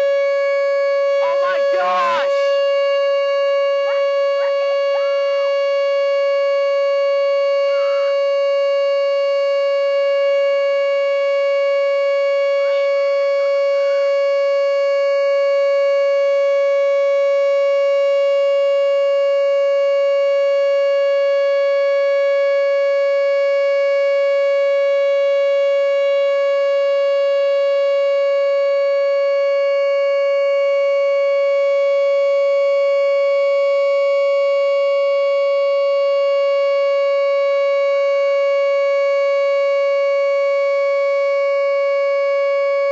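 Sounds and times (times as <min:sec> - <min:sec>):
steady warning siren tone: 0:00.0 - 0:42.9.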